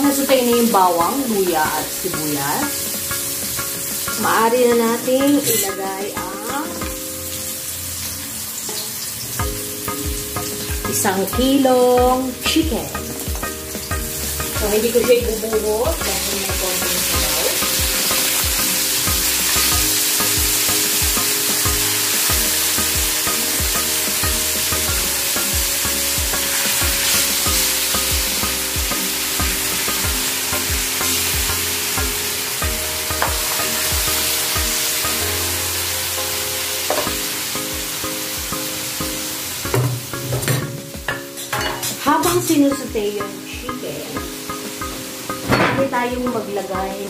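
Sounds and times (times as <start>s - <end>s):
background music with beat: 0.0s - 47.0s
chicken sizzling in hot oil: 0.0s - 47.0s.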